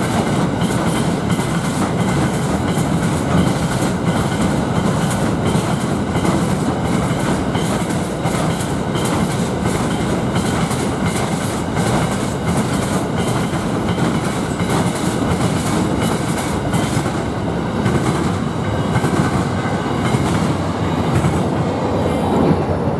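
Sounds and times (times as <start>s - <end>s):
train wheels clacking over rail joints: 0.0s - 21.6s
freight train rumbling past: 0.0s - 22.9s.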